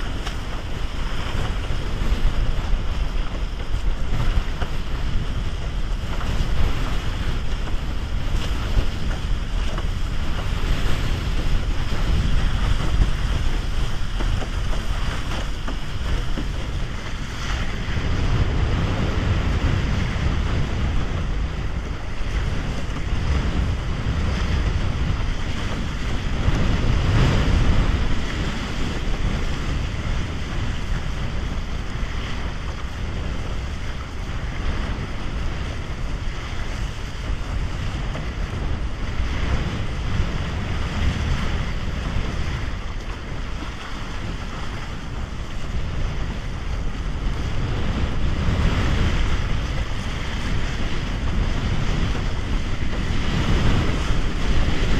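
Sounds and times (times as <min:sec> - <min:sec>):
water splashing against board: 0:00.0 - 0:54.9
wind buffeting microphone: 0:00.0 - 0:54.9.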